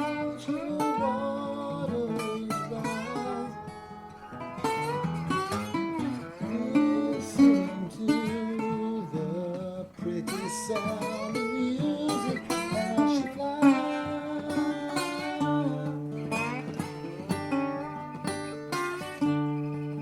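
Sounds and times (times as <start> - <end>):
plucked nylon-string guitar: 0.0 - 20.0
slide acoustic guitar lead: 0.0 - 20.0.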